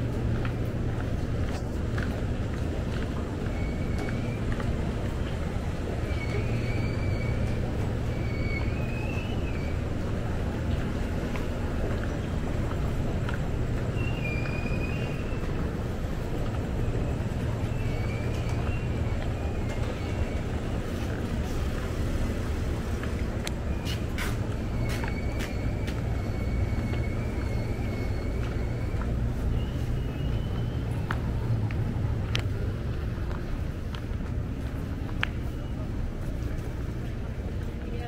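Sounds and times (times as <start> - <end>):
rumble of vehicles: 0.0 - 38.0.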